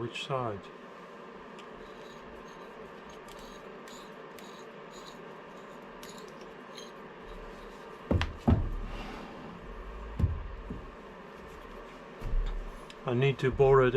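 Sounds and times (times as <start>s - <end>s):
faint workshop hum: 0.0s - 13.9s.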